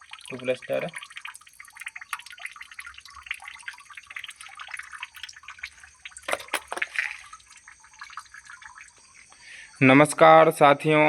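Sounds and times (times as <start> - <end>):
water dripping: 0.0 - 10.3.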